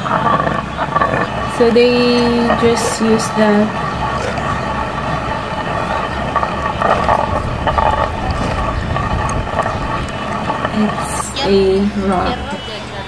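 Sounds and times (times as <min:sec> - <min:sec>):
stone quern grinding corn: 0:00.0 - 0:12.3.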